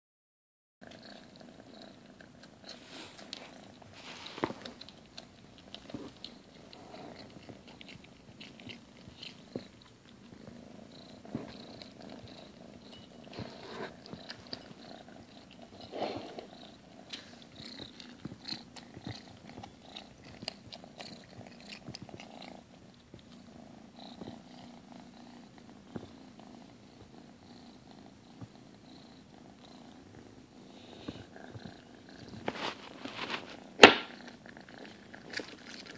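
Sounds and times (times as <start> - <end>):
kitten crunching dry kibble: 0.8 - 26.2, 29.6 - 35.9
cat purring: 0.8 - 35.9.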